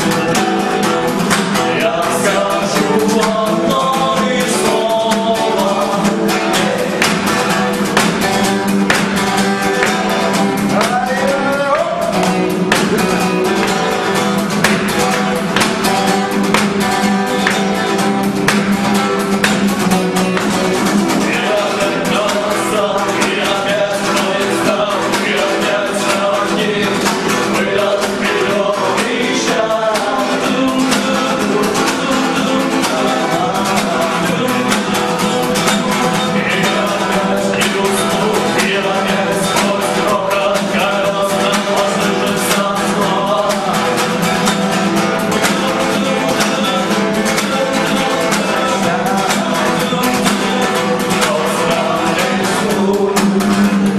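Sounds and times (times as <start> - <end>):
song with guitar and singing: 0.0 - 53.9.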